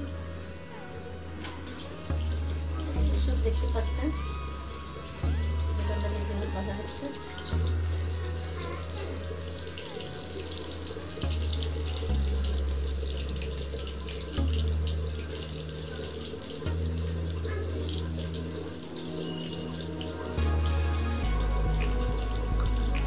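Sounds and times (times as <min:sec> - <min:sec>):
eggplant sizzling in oil: 0:00.0 - 0:23.0
low hum shifting pitch: 0:01.4 - 0:09.7, 0:11.2 - 0:23.0.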